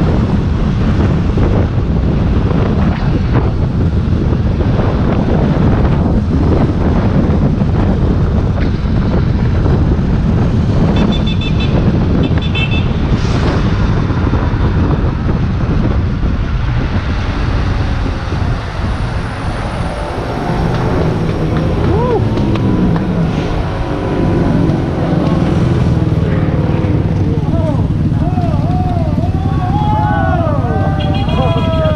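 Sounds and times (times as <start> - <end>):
low wind rumble on microphone: 0.0 - 31.9
road and traffic noise: 0.0 - 31.9.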